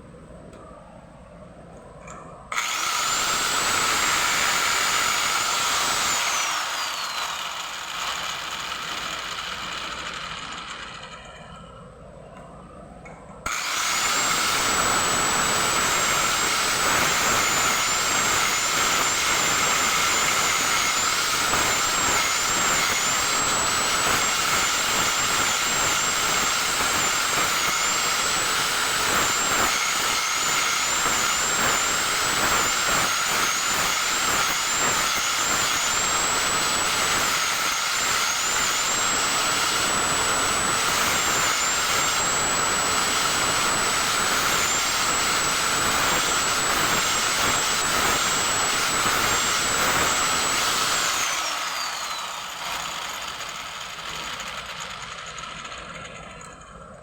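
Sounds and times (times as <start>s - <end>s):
electric power tool whining: 2.5s - 11.7s, 13.4s - 57.0s.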